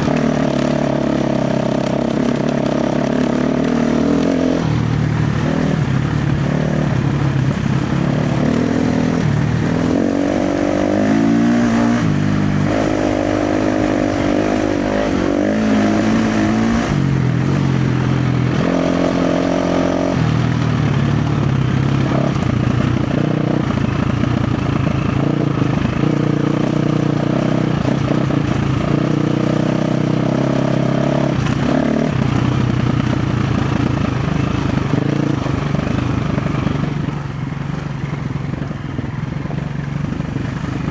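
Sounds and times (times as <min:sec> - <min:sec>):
dirt bike engine revving: 0:00.0 - 0:37.2.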